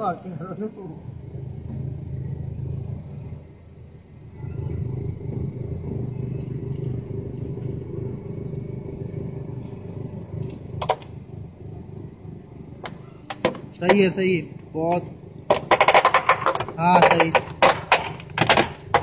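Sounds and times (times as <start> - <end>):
car engine at low revs: 0.0 - 19.0.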